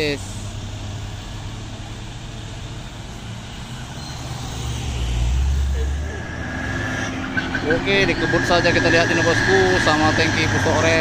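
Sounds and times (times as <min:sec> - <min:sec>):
heavy low engine rumble: 0:00.0 - 0:11.0
passing vehicles: 0:00.0 - 0:11.0.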